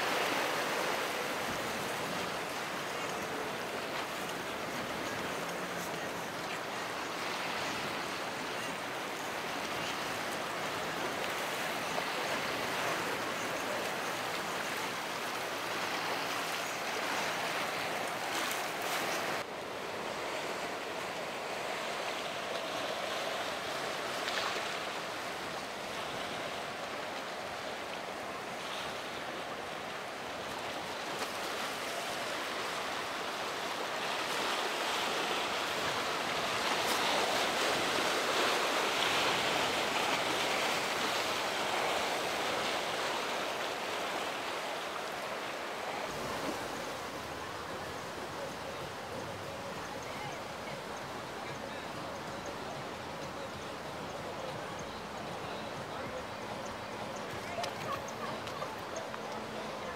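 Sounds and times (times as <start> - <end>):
waves and rushing surf: 0.0 - 59.9.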